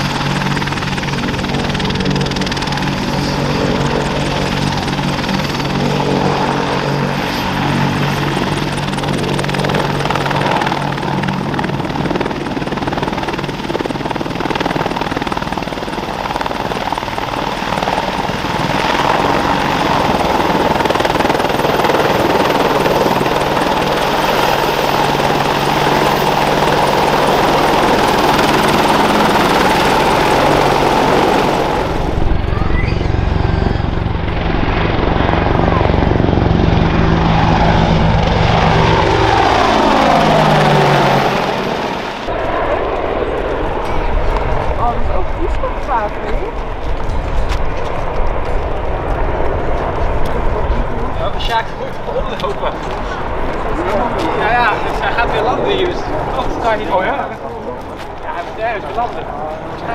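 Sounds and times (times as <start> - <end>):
helicopter turbine and rotor din: 0.0 - 59.9.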